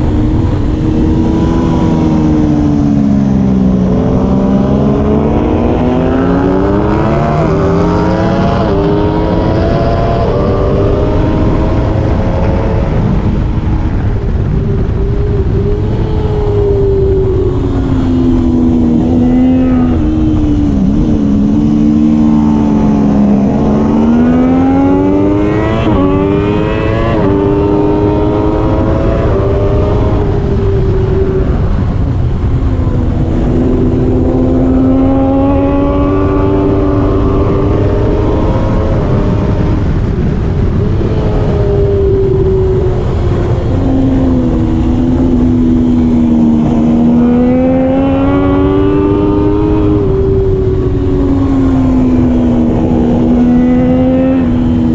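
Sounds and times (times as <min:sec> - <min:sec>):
motorcycle engine revving through gears: 0:00.0 - 0:54.9
steady rushing noise: 0:00.0 - 0:54.9.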